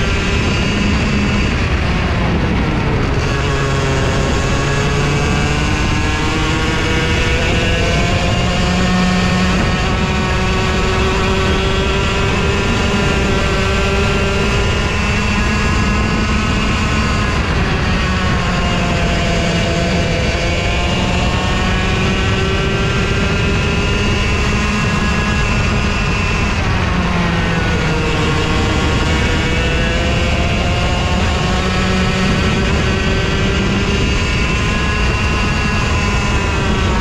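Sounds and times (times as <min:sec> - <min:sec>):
go-kart engine at high revs: 0:00.0 - 0:37.0.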